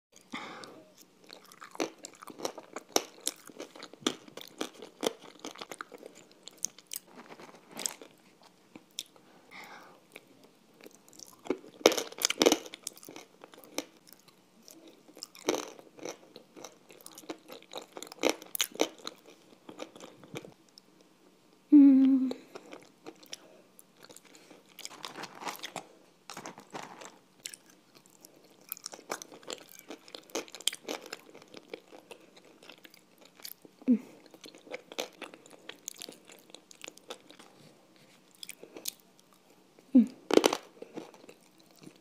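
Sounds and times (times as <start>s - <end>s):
crunching and wet chewing: 0.9s - 9.2s, 10.1s - 20.9s, 22.5s - 37.6s, 38.2s - 39.6s.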